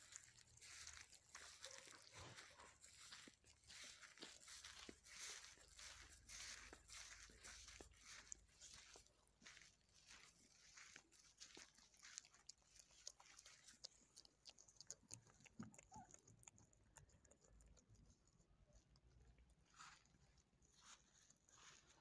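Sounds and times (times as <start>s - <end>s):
cat chewing meat: 0.0s - 20.3s.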